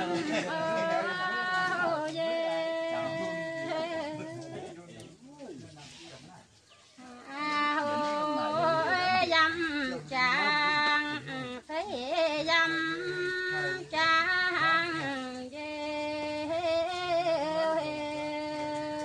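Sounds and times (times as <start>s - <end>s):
woman singing unaccompanied: 0.0s - 4.7s, 7.0s - 19.0s.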